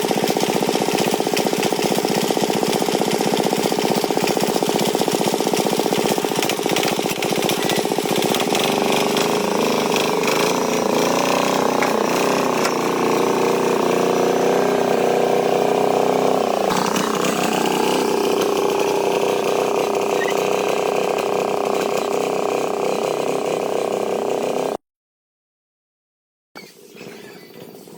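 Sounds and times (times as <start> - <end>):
tractor engine with mechanical clatter: 0.0 - 24.8.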